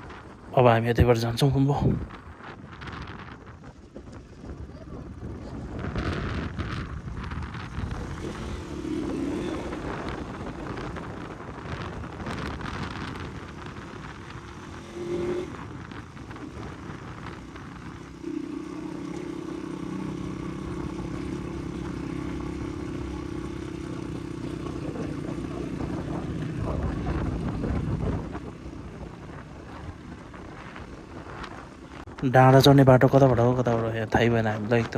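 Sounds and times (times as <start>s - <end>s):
wind buffeting microphone: 0.0s - 34.9s
dirt bike engine running: 2.0s - 34.4s.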